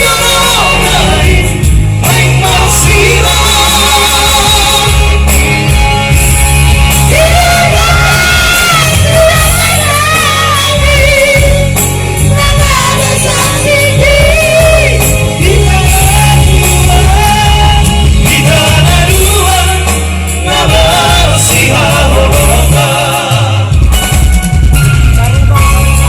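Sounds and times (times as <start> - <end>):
band accompaniment with bass: 0.0 - 26.0.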